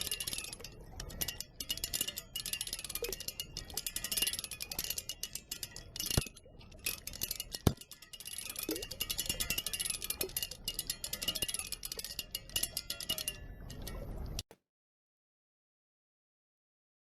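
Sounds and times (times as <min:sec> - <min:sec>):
water wheel mechanism clicking: 0:00.0 - 0:14.5.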